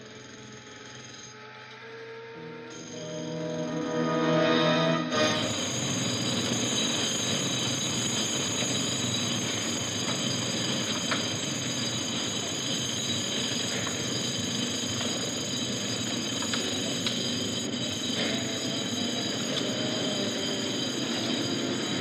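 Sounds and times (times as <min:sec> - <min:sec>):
pneumatic drills running: 0:00.0 - 0:01.8, 0:05.1 - 0:22.0.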